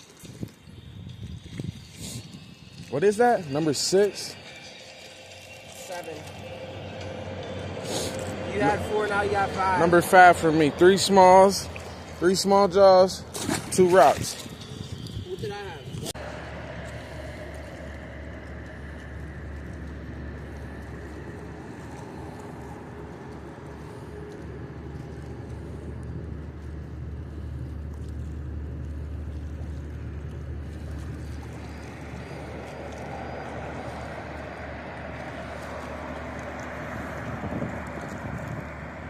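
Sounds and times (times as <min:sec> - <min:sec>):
low engine rumble: 0:00.0 - 0:39.0.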